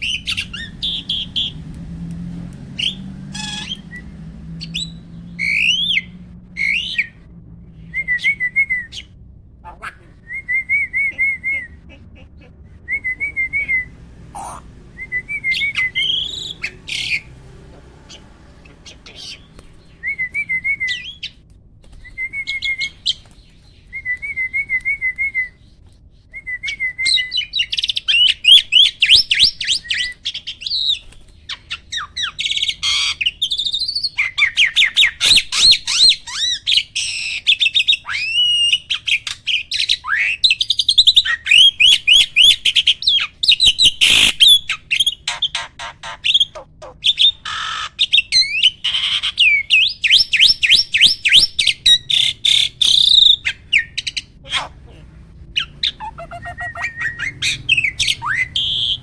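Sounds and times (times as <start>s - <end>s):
starling singing: 0.0s - 1.7s, 2.6s - 21.4s, 26.7s - 59.0s.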